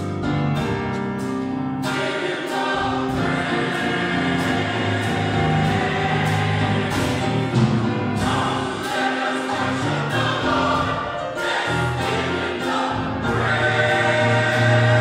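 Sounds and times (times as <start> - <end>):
church choir singing gospel: 0.0 - 15.0.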